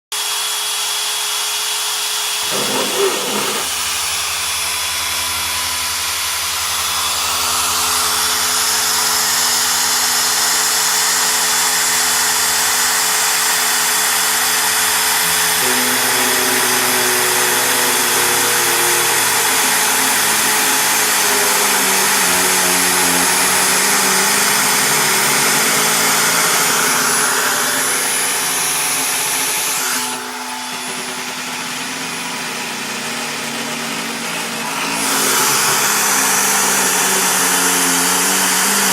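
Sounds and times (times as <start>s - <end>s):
cnc machine motor running: 2.3s - 9.4s, 11.0s - 38.9s.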